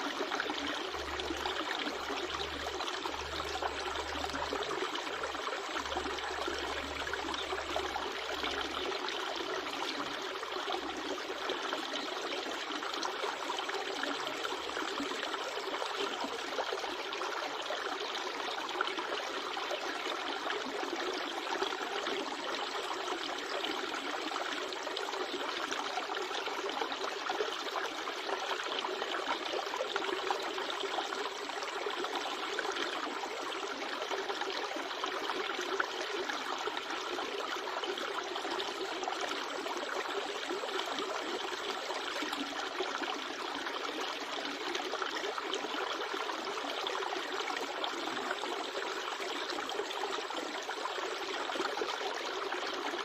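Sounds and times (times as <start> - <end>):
river water running: 0.0 - 53.0.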